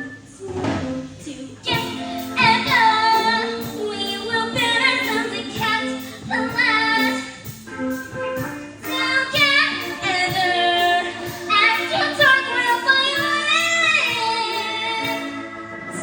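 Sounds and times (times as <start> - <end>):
young voices singing: 0.0 - 7.5, 8.6 - 16.0
instrumental accompaniment with beat: 0.0 - 16.0.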